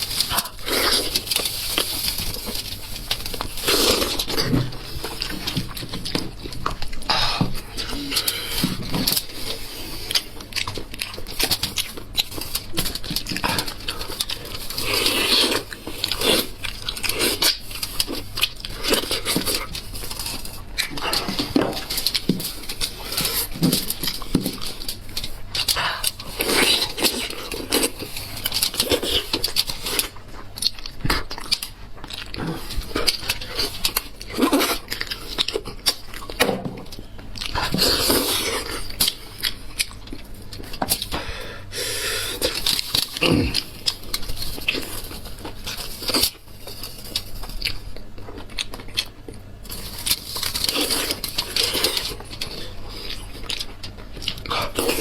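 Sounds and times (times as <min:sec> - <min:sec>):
wet chewing and lip-smacking: 0:00.0 - 0:55.0.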